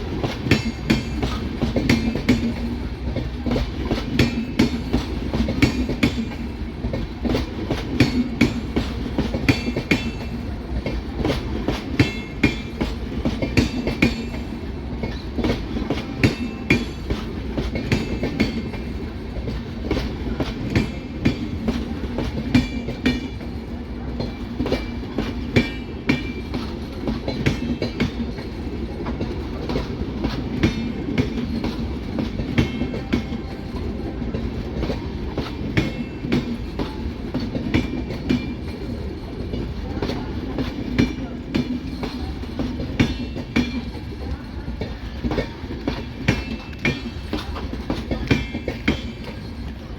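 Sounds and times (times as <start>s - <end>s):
train low rumble: 0.0s - 49.9s
train wheels clattering over rail joints: 0.0s - 49.9s.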